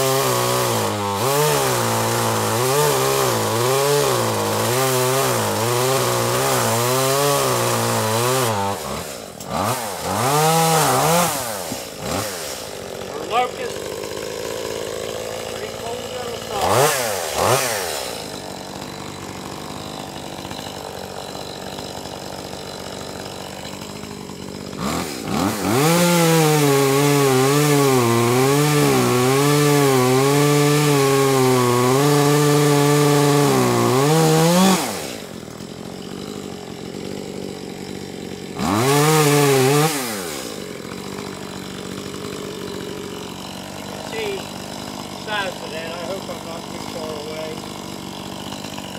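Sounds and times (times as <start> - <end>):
chainsaw cutting wood: 0.0 - 48.9
chainsaw idling and revving: 0.0 - 48.9.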